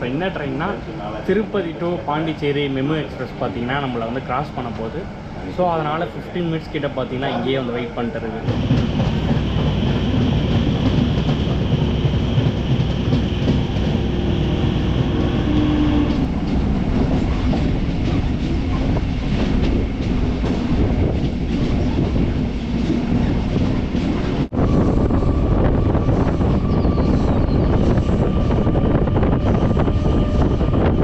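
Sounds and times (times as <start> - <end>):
electric train rumbling on rails: 0.0 - 31.0.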